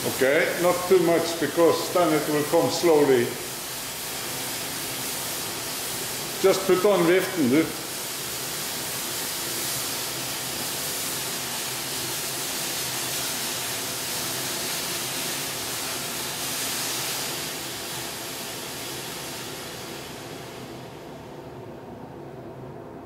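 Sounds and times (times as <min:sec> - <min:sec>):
extraction fan rushing air: 0:00.0 - 0:23.0.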